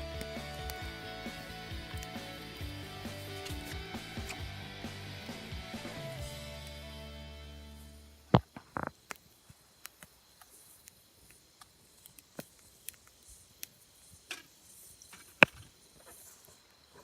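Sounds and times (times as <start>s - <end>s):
campfire crackling and popping: 0.0s - 7.0s, 8.1s - 15.6s.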